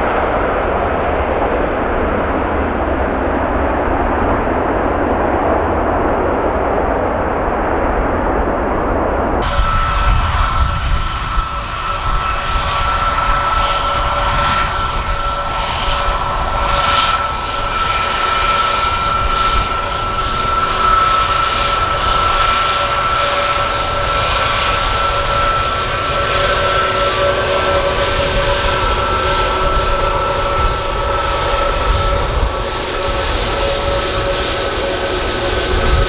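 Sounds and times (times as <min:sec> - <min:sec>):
jet engines whining: 0:00.0 - 0:36.0
wind rumble on microphone: 0:00.0 - 0:36.0.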